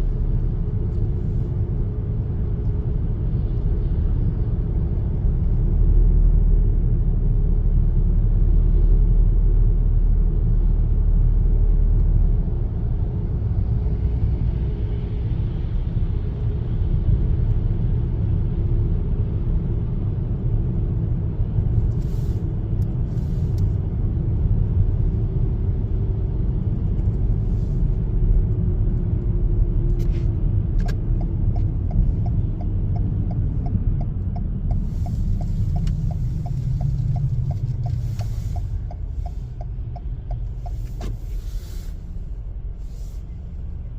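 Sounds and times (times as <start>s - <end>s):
road and engine rumble: 0.0s - 43.9s.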